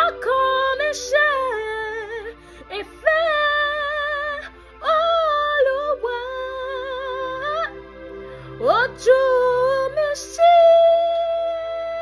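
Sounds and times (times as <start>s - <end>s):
woman singing gospel: 0.0s - 7.7s, 8.6s - 12.0s
held backing chord: 0.0s - 12.0s.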